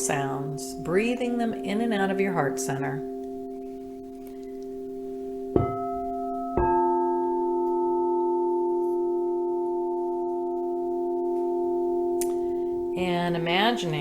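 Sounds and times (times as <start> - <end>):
singing bowls ringing: 0.6 - 14.0.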